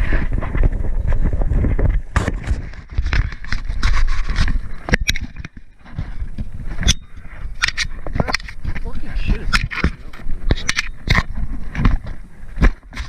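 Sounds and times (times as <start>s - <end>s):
gear and clothing rustling: 0.0s - 13.0s.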